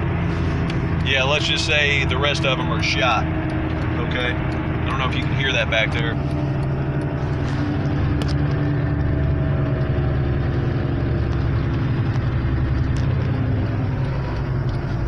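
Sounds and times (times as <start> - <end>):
car interior drone: 0.0 - 15.0
wheel bearing hum: 0.0 - 15.0.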